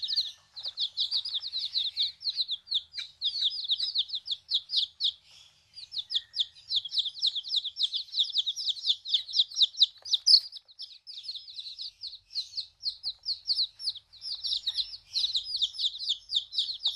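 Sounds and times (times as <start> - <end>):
baby chicks peeping: 0.0 - 16.9.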